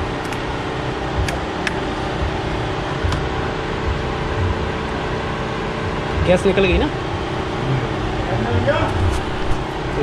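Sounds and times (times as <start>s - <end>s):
radiator cooling fan rushing: 0.0s - 10.0s.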